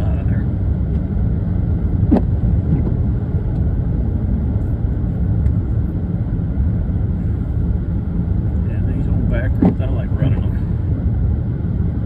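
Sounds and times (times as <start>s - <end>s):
tyre and engine rumble: 0.0s - 12.0s.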